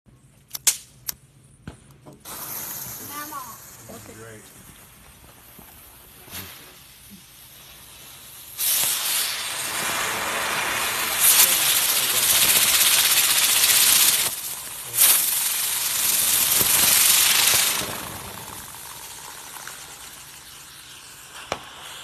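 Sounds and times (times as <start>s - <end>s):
ground firework hissing: 2.1s - 22.0s.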